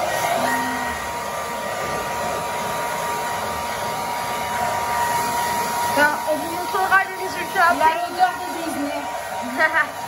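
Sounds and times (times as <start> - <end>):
blow dryer running: 0.0 - 10.0.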